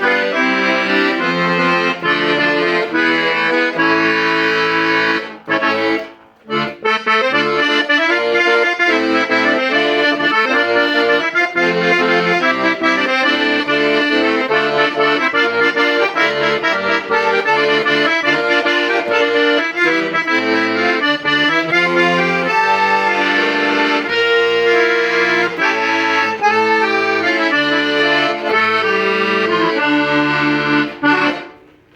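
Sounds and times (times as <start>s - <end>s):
accordion playing a tune: 0.0s - 31.9s.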